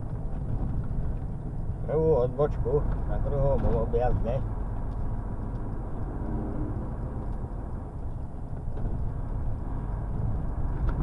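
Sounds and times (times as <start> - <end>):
road noise: 0.0 - 11.0
truck diesel engine: 0.0 - 11.0.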